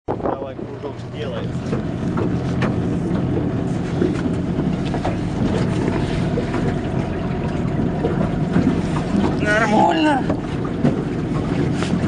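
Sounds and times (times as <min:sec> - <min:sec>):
boat motor running: 0:00.1 - 0:12.0.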